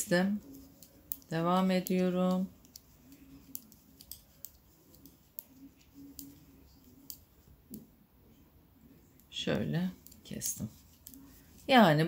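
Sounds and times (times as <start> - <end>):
knitting needles clicking: 0.4 - 7.8, 9.1 - 11.7.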